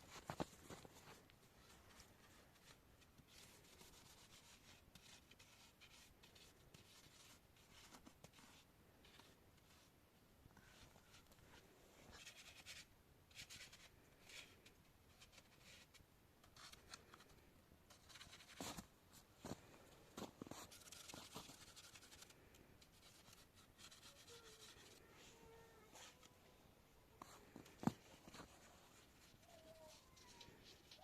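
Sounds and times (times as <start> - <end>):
faint scratching and rubbing: 0.0 - 31.0.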